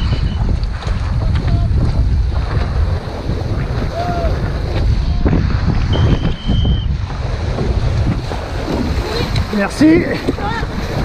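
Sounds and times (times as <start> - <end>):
choppy water splashing: 0.0 - 11.0
wind buffeting microphone: 0.0 - 11.0.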